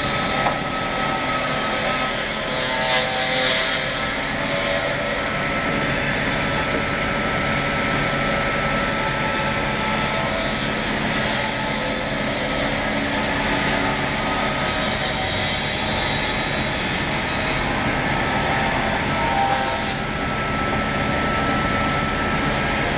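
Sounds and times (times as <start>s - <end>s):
woodworking machine droning: 0.0s - 22.9s.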